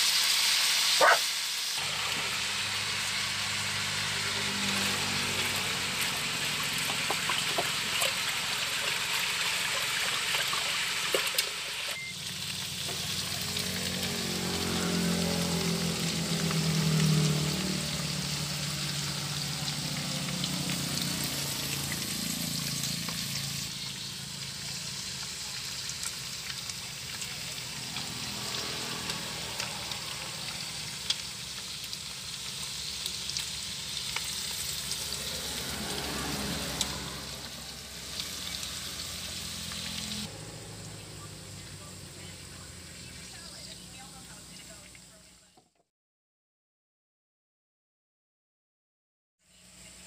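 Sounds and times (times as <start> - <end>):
meat sizzling in a frying pan: 0.0 - 45.1.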